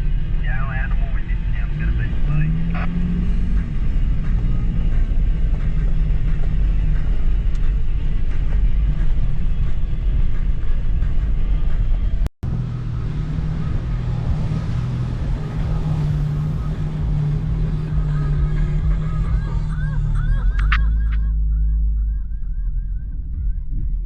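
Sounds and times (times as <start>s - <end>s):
vehicle engine and road rumble: 0.0s - 24.0s.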